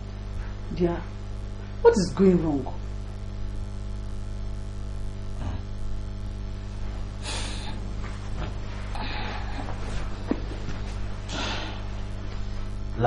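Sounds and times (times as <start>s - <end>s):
electrical mains hum: 0.0s - 13.0s
static hiss: 0.0s - 13.0s.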